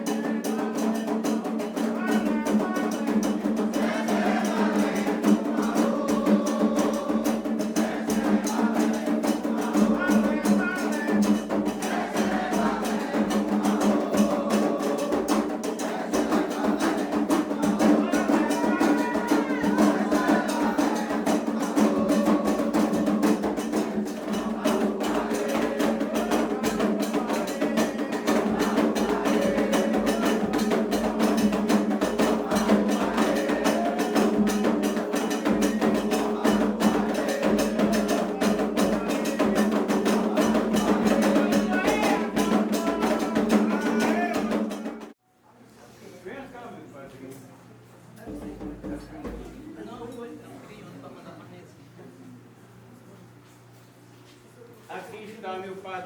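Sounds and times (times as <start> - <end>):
drums: 0.0 - 45.2, 48.3 - 49.8
struck percussion: 0.0 - 45.2
voices singing: 0.0 - 45.2.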